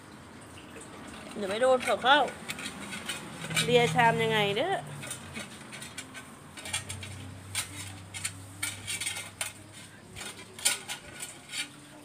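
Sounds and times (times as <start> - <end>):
dog eating from metal bowl: 0.8 - 12.0.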